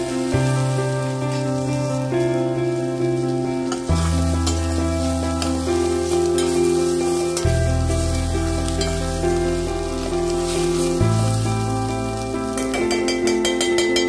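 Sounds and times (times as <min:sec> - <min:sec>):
background music of held chords: 0:00.0 - 0:14.0
vegetables sizzling in oil: 0:00.0 - 0:14.0.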